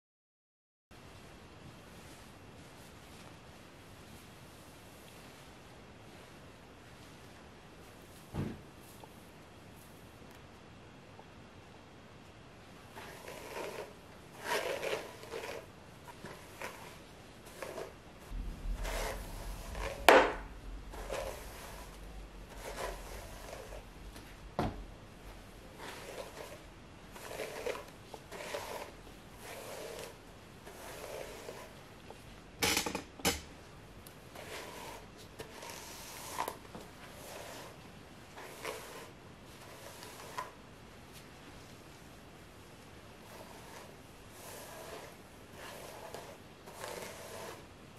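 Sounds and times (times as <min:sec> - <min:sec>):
brush swishing through wet hair: 0:01.1 - 0:10.1, 0:12.9 - 0:32.3, 0:34.2 - 0:42.1, 0:43.0 - 0:47.8.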